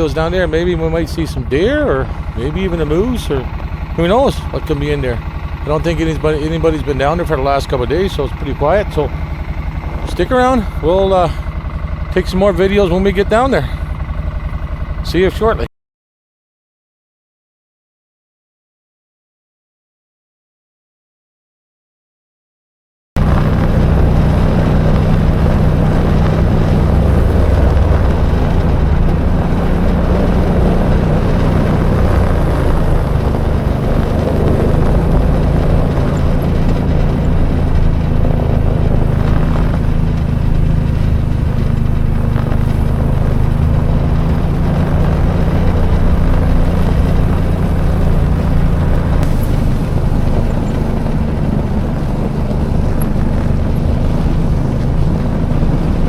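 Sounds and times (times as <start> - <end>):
quad engine running: 0.0 - 15.7, 23.2 - 56.0.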